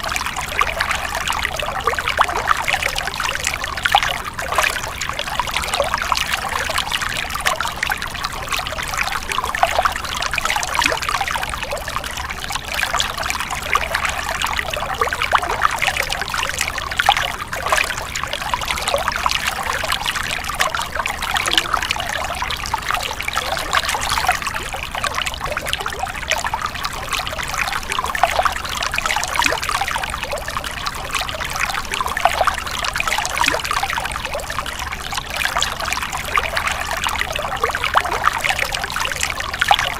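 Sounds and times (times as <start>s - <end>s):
stream water splashing and trickling: 0.0s - 39.9s.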